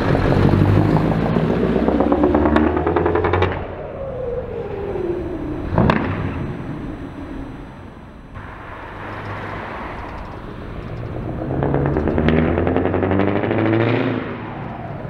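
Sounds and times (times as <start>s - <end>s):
truck engines: 0.0s - 15.0s.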